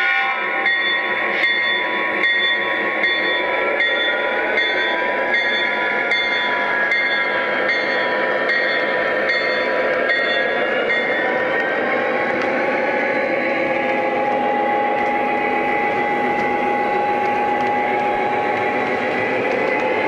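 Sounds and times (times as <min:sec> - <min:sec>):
model train running: 0:00.0 - 0:20.0.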